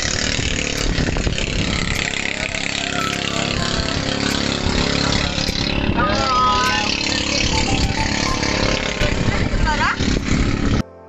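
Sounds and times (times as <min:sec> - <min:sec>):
boat engine running: 0:00.0 - 0:10.8
water rushing: 0:00.0 - 0:10.8
wind hissing: 0:00.0 - 0:10.8.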